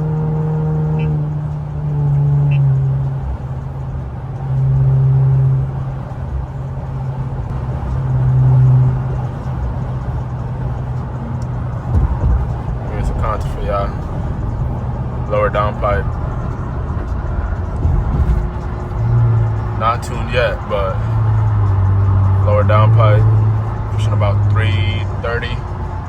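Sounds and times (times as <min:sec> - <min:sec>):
car engine droning at cruise: 0:00.0 - 0:26.0.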